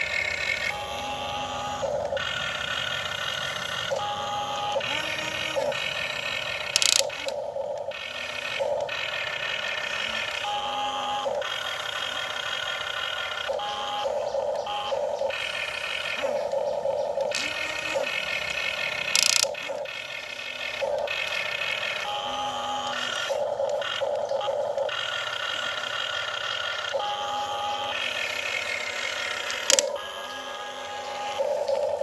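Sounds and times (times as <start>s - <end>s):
small electric motors whirring: 0.0s - 32.0s.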